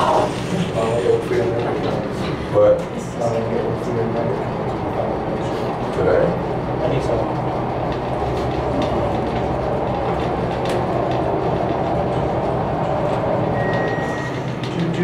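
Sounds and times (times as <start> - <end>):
elevator mechanical rumble: 0.0 - 15.0.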